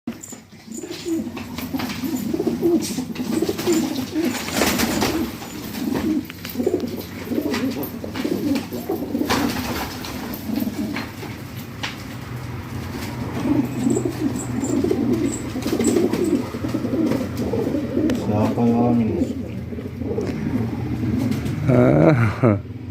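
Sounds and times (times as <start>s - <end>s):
pigeons cooing: 0.2s - 22.9s.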